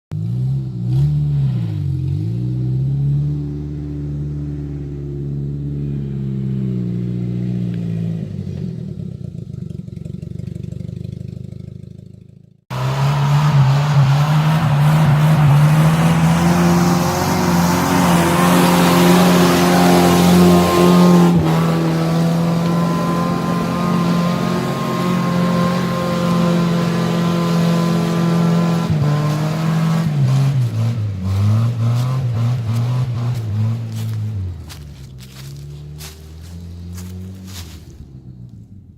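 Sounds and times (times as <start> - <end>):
noise over engine: 0.1 - 38.9
car engine running under load: 3.4 - 38.9.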